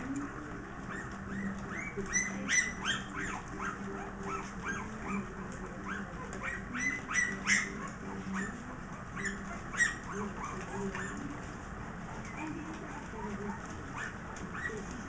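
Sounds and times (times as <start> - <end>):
puppies squeaking and whimpering: 0.0 - 15.0.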